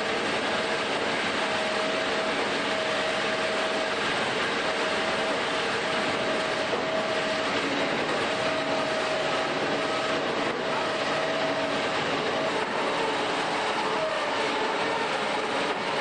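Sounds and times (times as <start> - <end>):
bandsaw cutting metal: 0.0 - 16.0.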